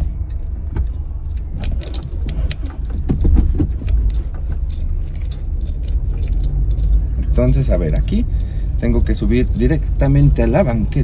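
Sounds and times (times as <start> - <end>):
car clicks and rattles: 0.0 - 11.0
car rolling low rumble: 0.0 - 11.0.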